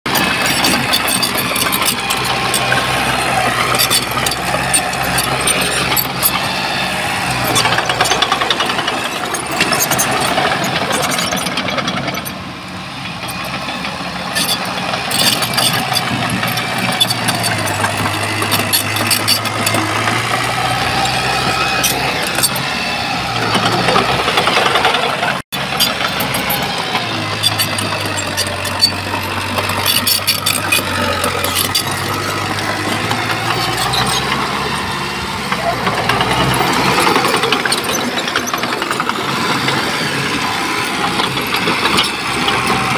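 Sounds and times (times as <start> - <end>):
metallic clanks and rattles: 0.1 - 6.5, 7.3 - 12.4, 13.1 - 22.7, 23.4 - 42.9
bulldozer diesel engine running: 0.1 - 42.9.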